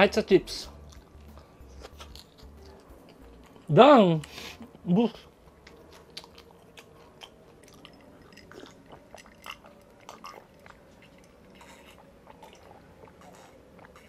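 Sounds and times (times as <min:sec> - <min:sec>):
chewing with wet clicks: 0:00.6 - 0:04.4, 0:05.2 - 0:14.0.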